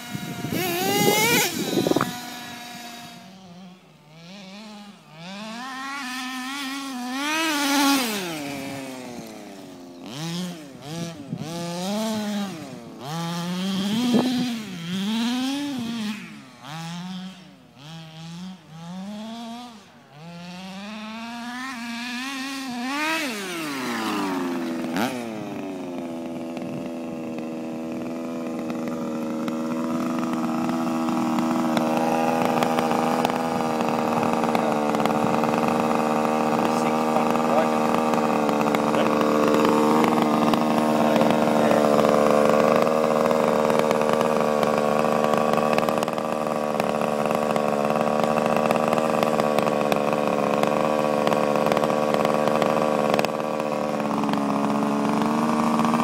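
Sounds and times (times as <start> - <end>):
small combustion engine revving: 0.0 - 56.0.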